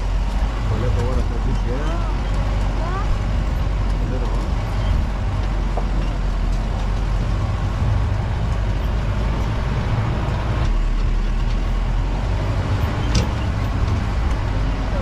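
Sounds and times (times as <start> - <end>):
jeep engine and road rumble: 0.0 - 15.0.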